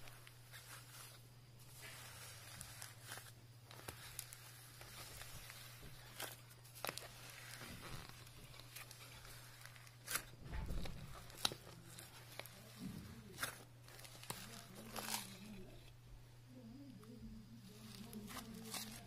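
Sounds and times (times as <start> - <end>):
foam beads crackling and rustling: 0.0 - 16.0, 17.6 - 19.0
low steady hum: 0.0 - 19.0.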